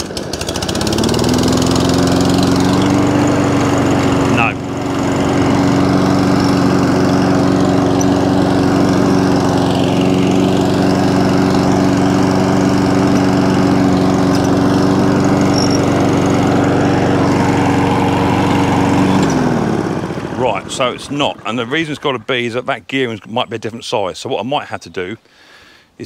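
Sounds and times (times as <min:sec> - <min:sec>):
lawn mower engine running: 0:00.0 - 0:23.5.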